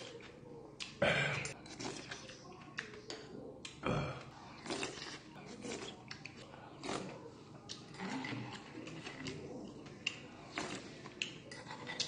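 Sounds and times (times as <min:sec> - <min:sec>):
slurping and chewing: 0:00.0 - 0:12.0.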